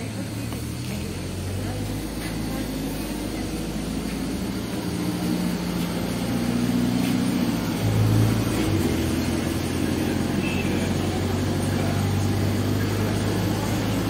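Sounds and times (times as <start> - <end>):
bus engine accelerating: 0.0 - 14.0
road and cabin rattle: 0.0 - 14.0.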